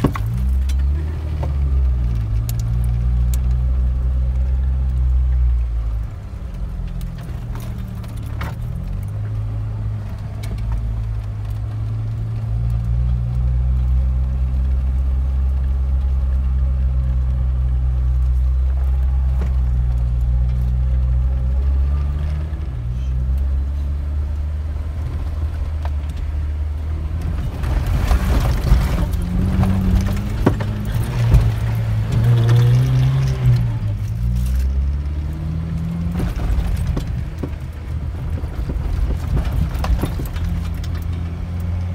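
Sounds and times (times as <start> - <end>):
car engine running: 0.0 - 41.9
rattles and knocks over bumps: 0.0 - 41.9.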